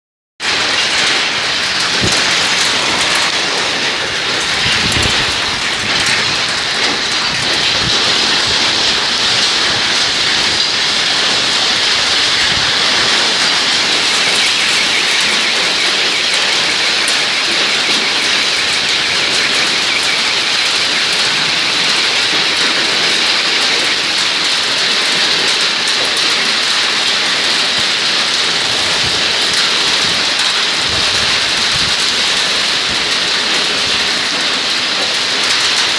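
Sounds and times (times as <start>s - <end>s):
hail and heavy rain pelting: 0.4s - 35.9s.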